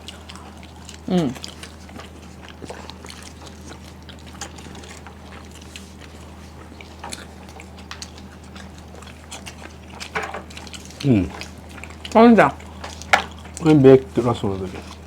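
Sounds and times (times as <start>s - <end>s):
soft chewing and mouth clicks: 0.0s - 15.0s
steady low hum: 0.0s - 15.0s.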